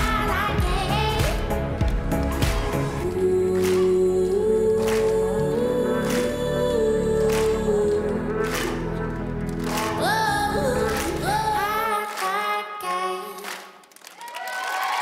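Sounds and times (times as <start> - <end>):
pop song with singing: 0.0 - 13.8.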